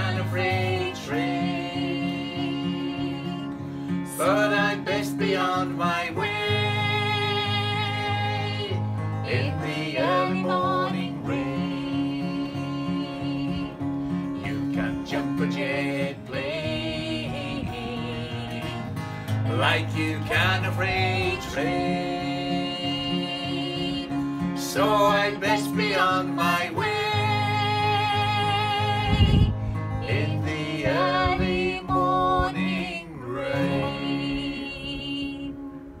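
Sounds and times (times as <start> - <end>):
man and woman singing: 0.0 - 35.6
acoustic guitar strumming: 0.0 - 36.0.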